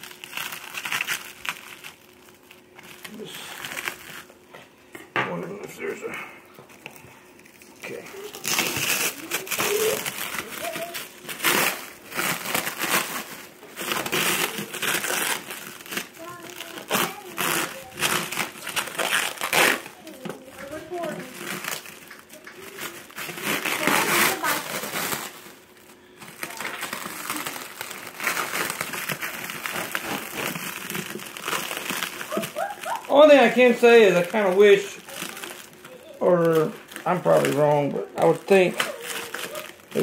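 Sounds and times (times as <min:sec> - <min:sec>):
packing material crinkling: 0:00.0 - 0:04.5, 0:05.4 - 0:40.0.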